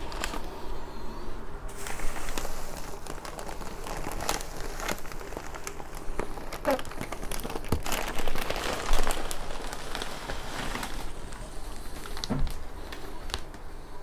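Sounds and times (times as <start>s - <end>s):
bubble wrap crinkling: 0.0s - 0.6s, 1.7s - 13.8s
plastic bag rustling: 0.0s - 1.0s, 1.7s - 14.0s.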